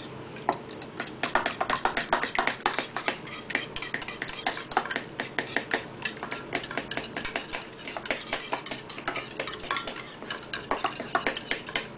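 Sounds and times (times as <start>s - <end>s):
whisk clinking against ceramic bowl: 0.5s - 11.9s.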